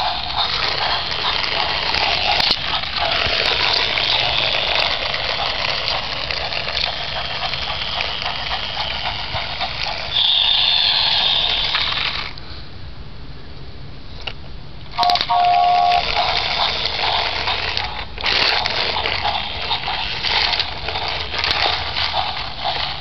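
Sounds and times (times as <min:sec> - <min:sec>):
toy train motor whirring: 0:00.0 - 0:12.4, 0:14.9 - 0:23.0
toy wheels rattling on concrete: 0:00.0 - 0:12.4, 0:14.9 - 0:23.0.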